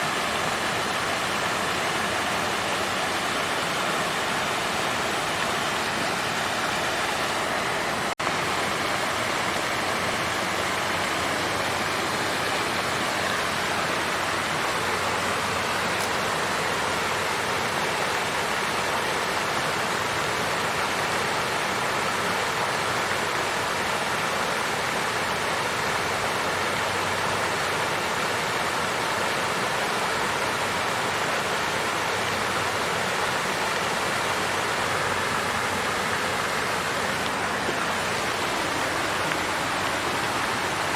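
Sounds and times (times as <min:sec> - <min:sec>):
water fountain splashing: 0:00.0 - 0:40.9.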